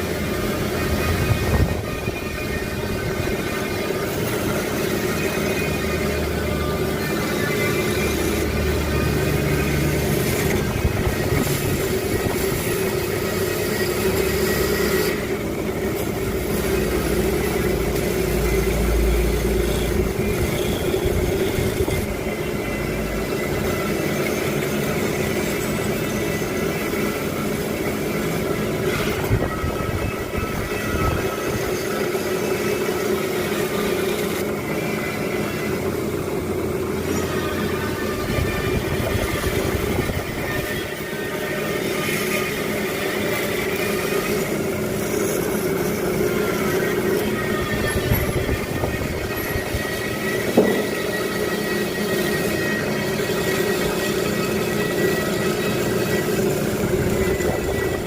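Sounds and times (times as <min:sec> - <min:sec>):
drill press motor hum: 0:00.0 - 0:58.0.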